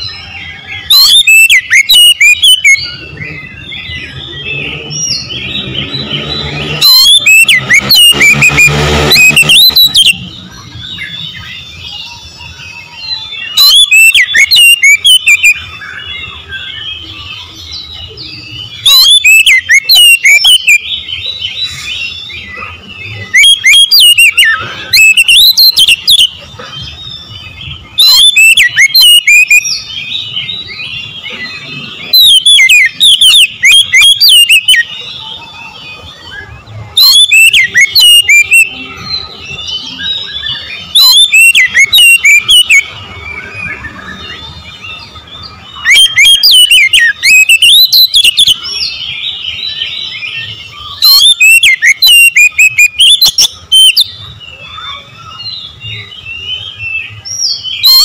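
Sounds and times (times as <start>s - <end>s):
bird whistling song: 0.0s - 58.0s
soft bird twittering: 0.0s - 58.0s.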